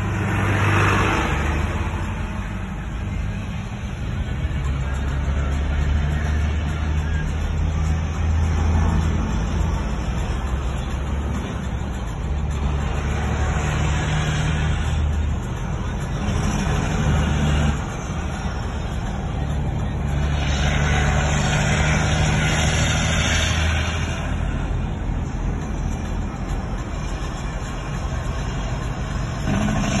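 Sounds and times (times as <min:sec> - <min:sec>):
road noise: 0:00.0 - 0:30.0
truck engine droning: 0:00.0 - 0:30.0.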